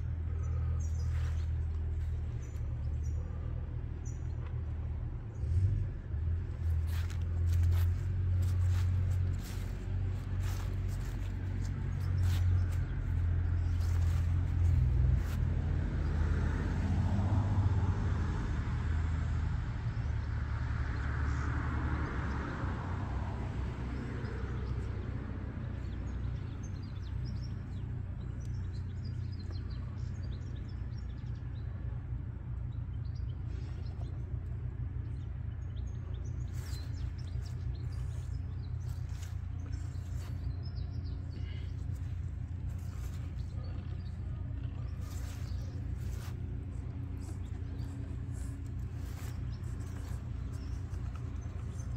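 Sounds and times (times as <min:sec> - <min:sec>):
small birds chirping: 0:00.0 - 0:16.2, 0:23.8 - 0:51.9
low rumble: 0:00.0 - 0:20.8, 0:22.6 - 0:51.9.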